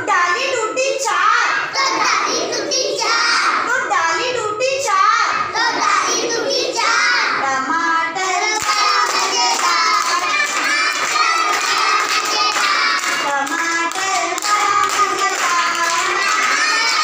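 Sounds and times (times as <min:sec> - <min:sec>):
children singing in chorus: 0:01.3 - 0:03.7, 0:05.0 - 0:17.0.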